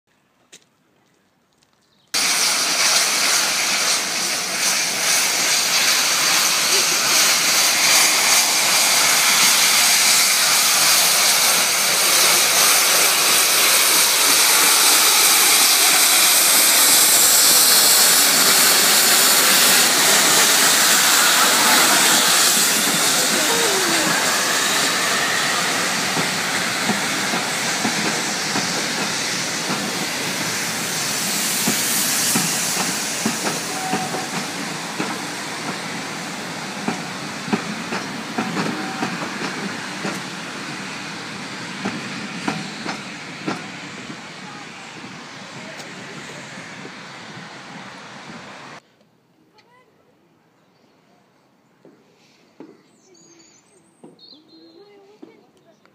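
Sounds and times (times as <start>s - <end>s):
steam locomotive hissing: 2.2s - 48.8s.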